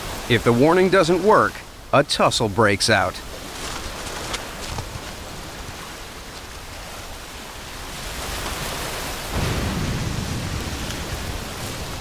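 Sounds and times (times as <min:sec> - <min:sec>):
surf breaking against rocks: 0:00.0 - 0:12.0.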